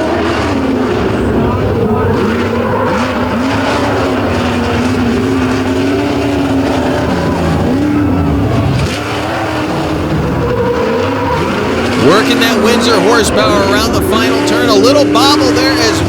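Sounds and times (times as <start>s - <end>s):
truck engine racing at high revs: 0.0s - 16.0s.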